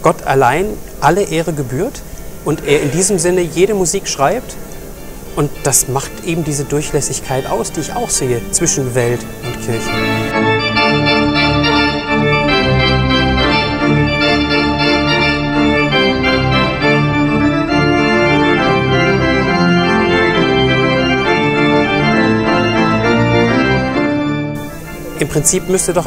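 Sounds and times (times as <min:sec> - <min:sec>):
church organ chords: 0:00.0 - 0:26.0.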